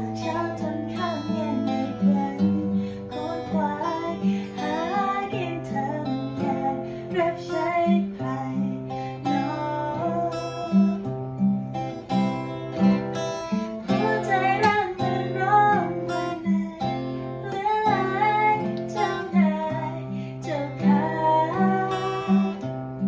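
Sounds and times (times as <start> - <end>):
person singing: 0.0 - 11.0, 13.8 - 23.0
acoustic guitar chords: 0.0 - 23.0.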